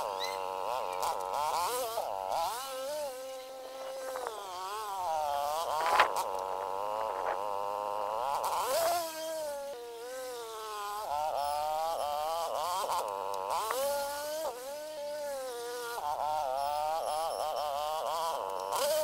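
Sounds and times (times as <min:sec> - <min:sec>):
snowblower engine running: 0:00.0 - 0:19.0.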